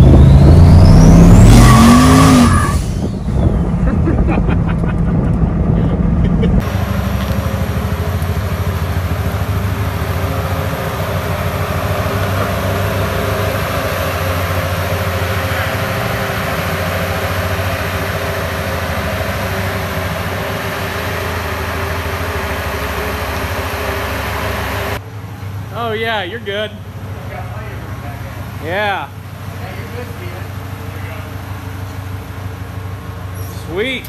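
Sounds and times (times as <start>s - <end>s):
tires roaring on road: 0.0s - 34.0s
truck engine running: 0.0s - 34.0s.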